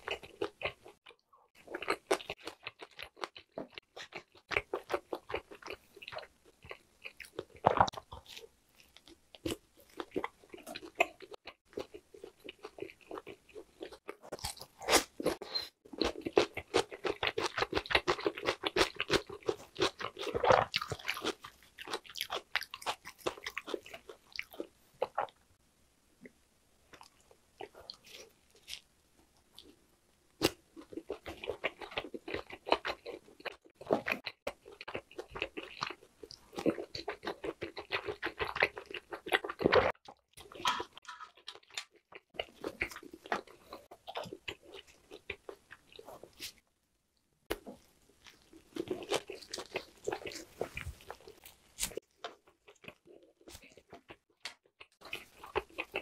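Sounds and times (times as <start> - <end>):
person chewing meat: 0.0 - 25.4, 26.9 - 28.9, 30.4 - 46.6, 47.5 - 56.0.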